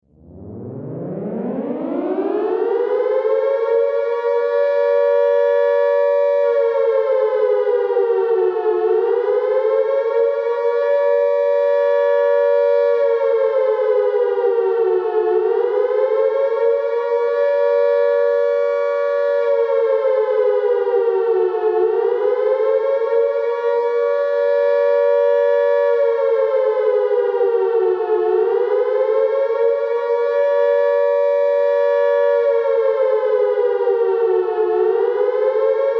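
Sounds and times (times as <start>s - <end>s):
air raid siren wailing: 0.2s - 35.9s.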